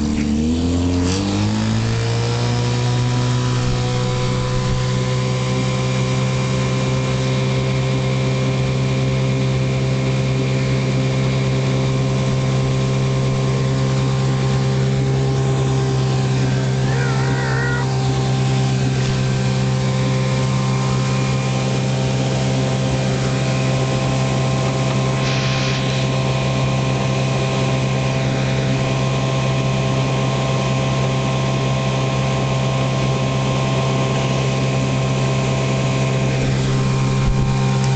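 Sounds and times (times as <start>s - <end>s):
outboard motor running: 0.0s - 37.9s.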